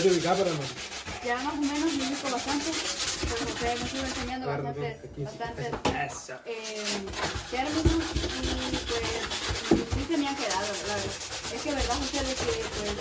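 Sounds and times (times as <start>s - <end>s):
sandpaper rubbing on wood: 0.0s - 4.4s, 6.5s - 13.0s.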